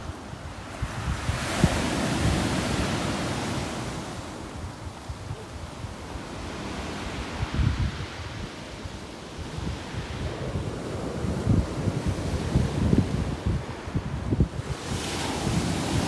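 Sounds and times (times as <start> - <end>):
storm waves breaking on beach: 0.0 - 16.0
wind buffeting microphone: 0.0 - 16.0.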